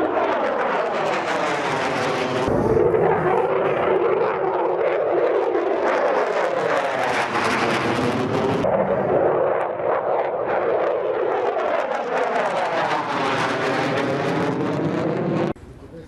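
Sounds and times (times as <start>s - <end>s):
jet passing overhead: 0.0s - 15.8s.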